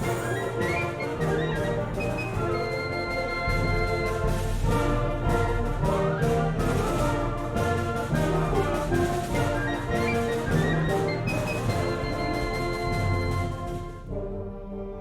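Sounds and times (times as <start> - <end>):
concert wind band playing: 0.0 - 15.0
timpani and percussion: 0.0 - 15.0.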